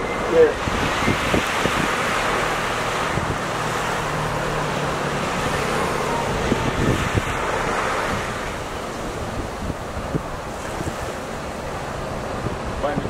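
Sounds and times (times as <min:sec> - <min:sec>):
sea waves washing: 0:00.0 - 0:13.0
wind rumble on microphone: 0:00.0 - 0:13.0.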